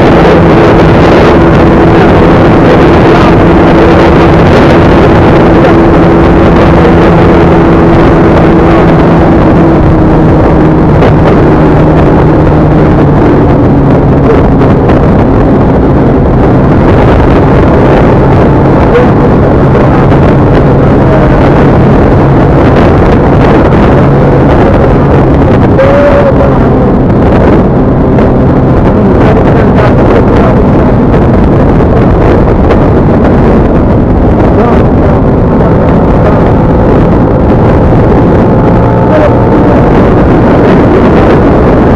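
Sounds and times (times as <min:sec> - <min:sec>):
vehicle engine running: 0:00.0 - 0:41.9
wind and road noise: 0:00.0 - 0:41.9.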